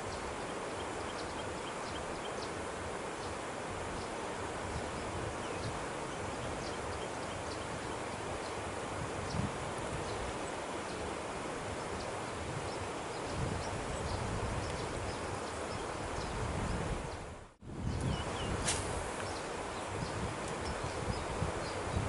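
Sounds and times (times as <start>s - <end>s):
wind buffeting microphone: 3.7s - 22.0s.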